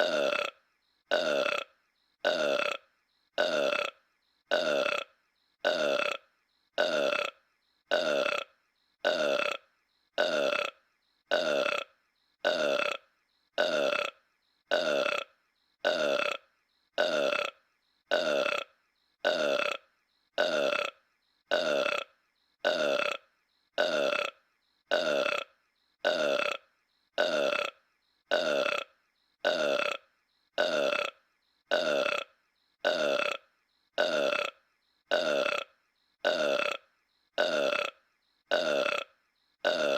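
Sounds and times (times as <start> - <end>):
cartoon burp: 0.0 - 39.9.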